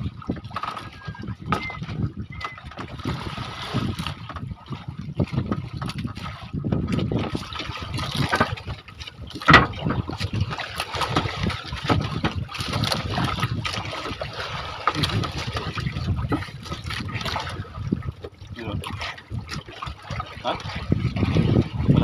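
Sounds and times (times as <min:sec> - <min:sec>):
boat knocking: 0:00.0 - 0:22.0
water splashing against boat: 0:00.0 - 0:22.0.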